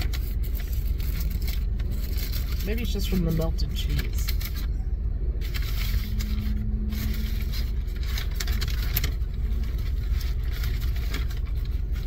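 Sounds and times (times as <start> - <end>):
paper wrapper crinkling: 0.0 - 4.7, 5.4 - 12.0
car engine idling: 0.0 - 12.0.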